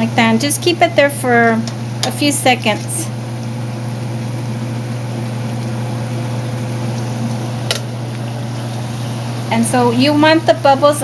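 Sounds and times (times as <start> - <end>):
tortillas sizzling in oil: 1.0 - 11.0.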